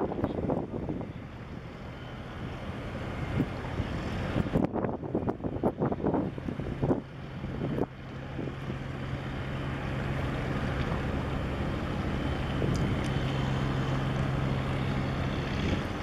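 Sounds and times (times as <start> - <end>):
boat diesel engine drone: 0.0 - 16.0
wind and water hiss: 0.0 - 16.0.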